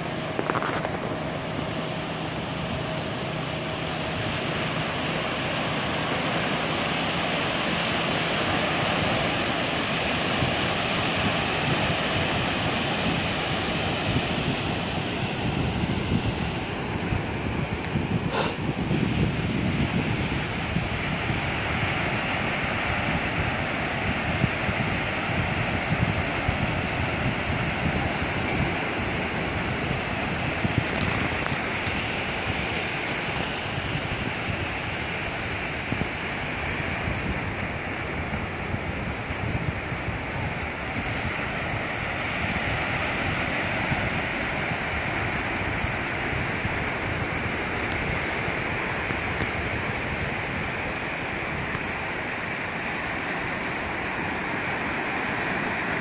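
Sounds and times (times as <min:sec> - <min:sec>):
surf washing up a beach: 0:00.0 - 0:56.0
wind buffeting microphone: 0:00.0 - 0:56.0.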